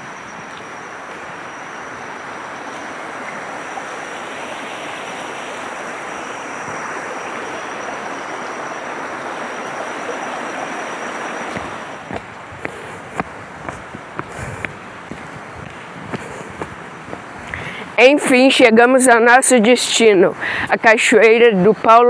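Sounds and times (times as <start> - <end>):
distant waterfall hiss: 0.0 - 21.9.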